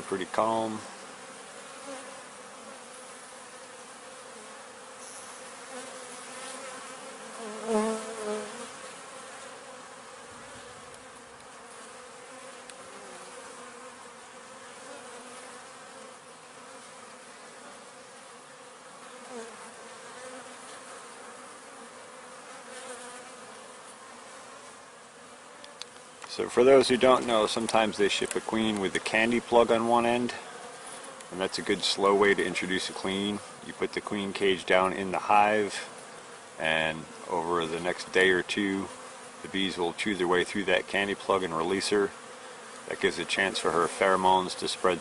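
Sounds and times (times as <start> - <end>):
honey bees buzzing: 0.0 - 45.0.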